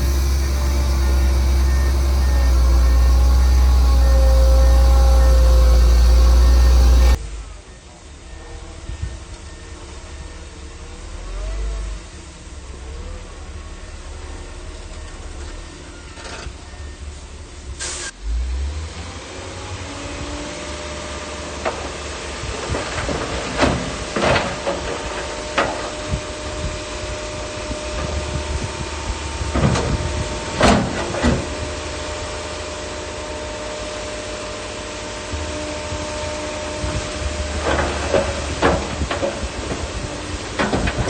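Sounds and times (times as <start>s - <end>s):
bulldozer diesel engine: 0.0s - 41.0s
constant mechanical whine: 0.0s - 41.0s.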